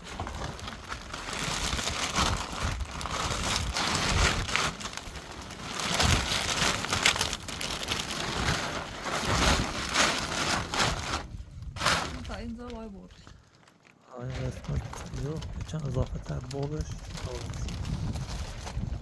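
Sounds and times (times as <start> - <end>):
plastic sheet rustling and crinkling: 0.0 - 19.0.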